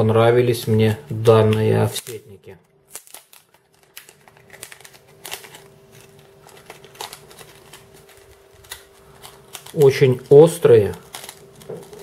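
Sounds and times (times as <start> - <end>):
plastic packet crinkling: 0.8 - 12.0.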